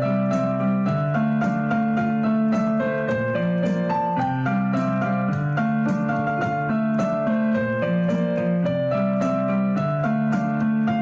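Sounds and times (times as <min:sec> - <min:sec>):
background piano music: 0:00.0 - 0:11.0.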